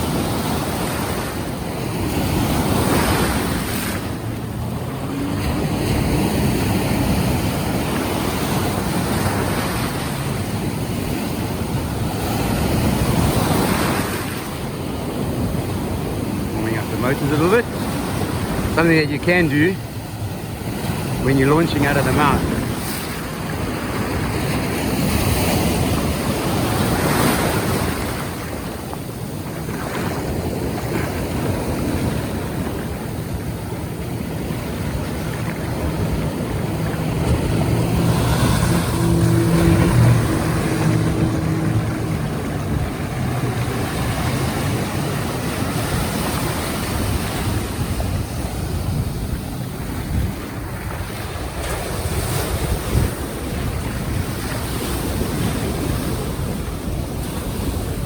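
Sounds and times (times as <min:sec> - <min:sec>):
boat outboard motor running: 0:00.0 - 0:58.0
surf washing: 0:00.0 - 0:58.0
wind buffeting microphone: 0:00.0 - 0:58.0.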